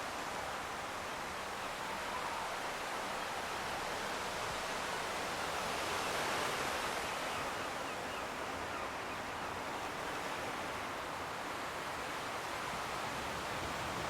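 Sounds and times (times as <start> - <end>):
distant sea surf: 0.0 - 14.0.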